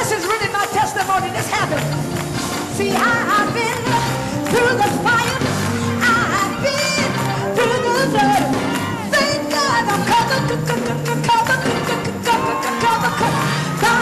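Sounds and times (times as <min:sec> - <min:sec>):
steady percussion beat: 0:00.0 - 0:14.0
person singing gospel: 0:02.7 - 0:14.0.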